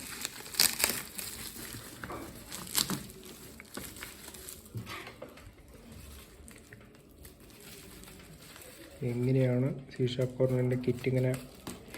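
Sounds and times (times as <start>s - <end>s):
parcel packaging rustling: 0.0s - 11.9s.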